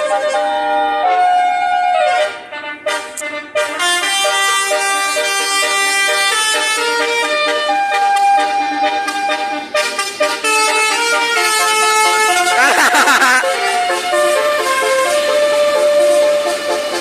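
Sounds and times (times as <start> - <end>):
musical air horn playing tune: 0.0 - 17.0.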